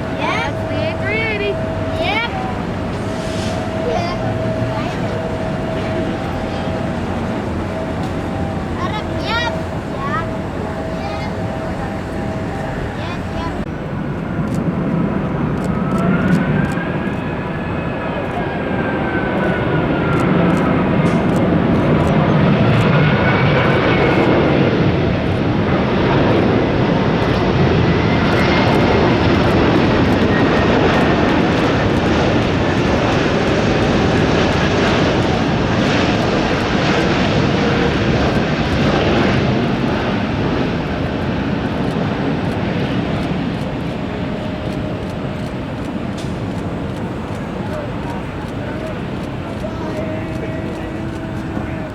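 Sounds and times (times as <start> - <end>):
jet airliner engines passing: 0.0 - 51.9.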